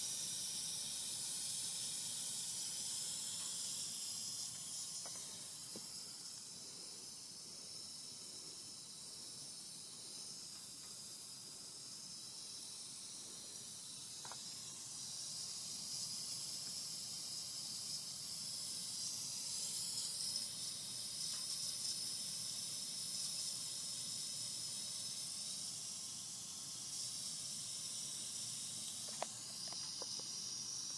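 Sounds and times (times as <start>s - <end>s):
steady high-pitched hiss: 0.0s - 30.9s.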